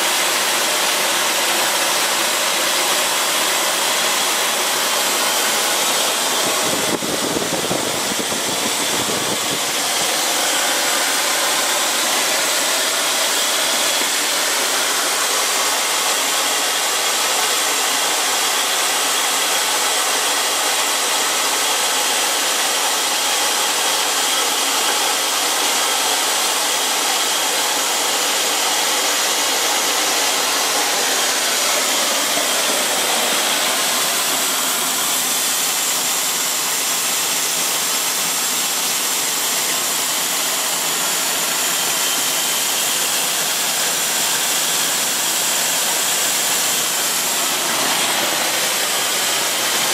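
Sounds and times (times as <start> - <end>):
turbojet engine running: 0.0 - 49.9.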